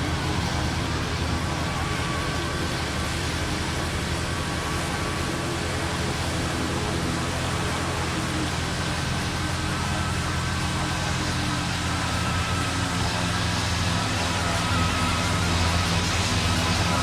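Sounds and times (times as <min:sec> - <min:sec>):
engine-like hum: 0:00.0 - 0:17.0.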